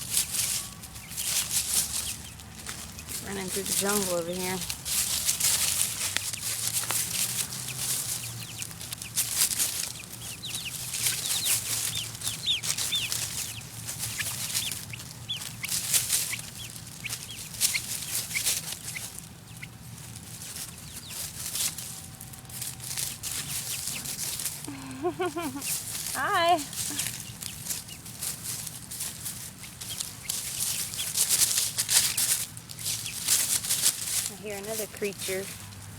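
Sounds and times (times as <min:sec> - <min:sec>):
chicks cheeping: 0:00.0 - 0:35.9
rustling in dry leaves: 0:00.0 - 0:35.9.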